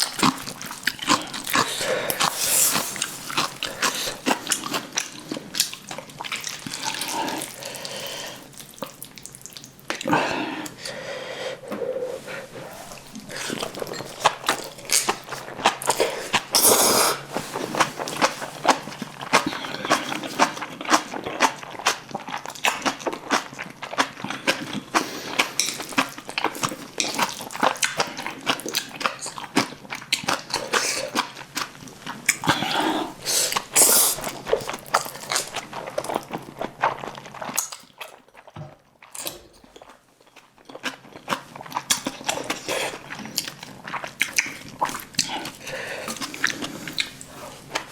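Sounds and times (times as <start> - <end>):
close chewing and crunching: 0.0 - 10.9, 12.5 - 47.9.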